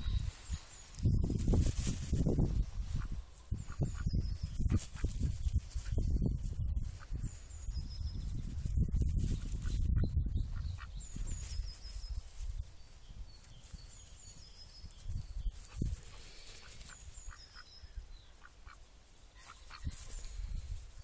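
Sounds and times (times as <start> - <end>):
wind rumble: 0.0 - 18.2.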